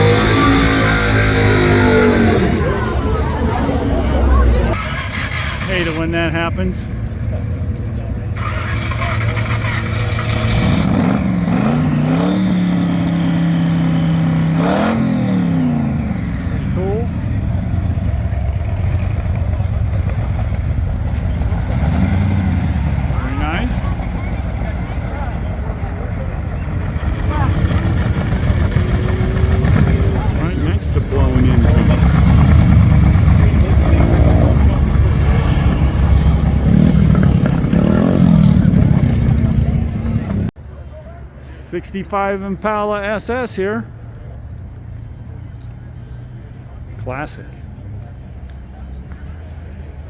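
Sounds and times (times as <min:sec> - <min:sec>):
car engine revving: 0:00.0 - 0:40.6.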